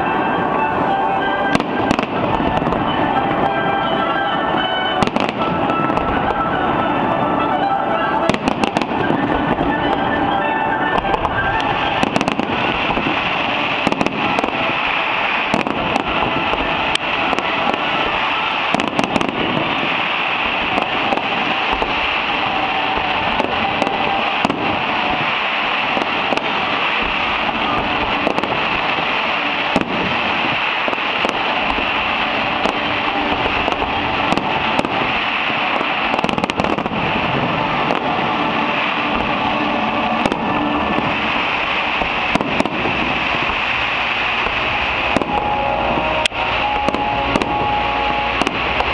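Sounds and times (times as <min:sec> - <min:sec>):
firework bangs: 0:00.0 - 0:48.9
firework crackling rush: 0:00.0 - 0:48.9.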